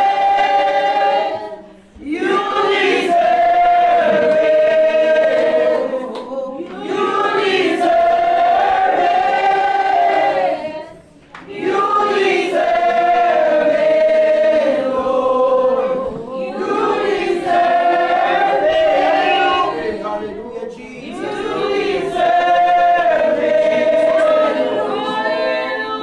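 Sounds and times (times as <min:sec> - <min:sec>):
group singing worship song: 0:00.0 - 0:26.0.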